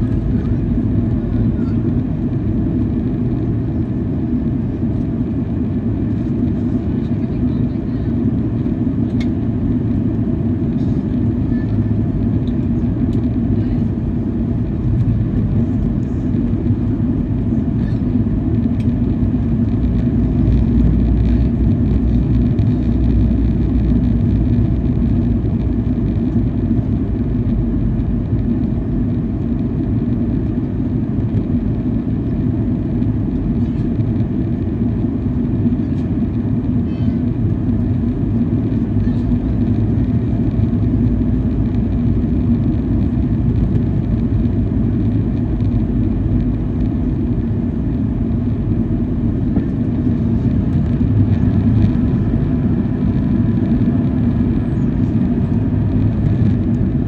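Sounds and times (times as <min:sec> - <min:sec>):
jet engine drone: 0:00.0 - 0:57.0
steady low hum: 0:00.0 - 0:57.0.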